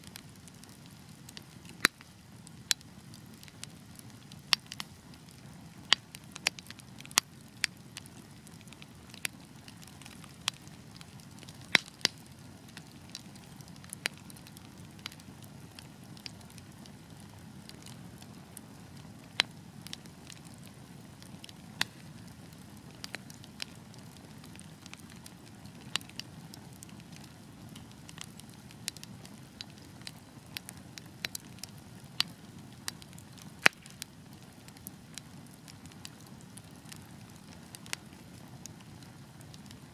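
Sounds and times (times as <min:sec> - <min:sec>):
fire burning in fireplace: 0:00.0 - 0:39.9
fire crackling and popping: 0:00.0 - 0:39.9.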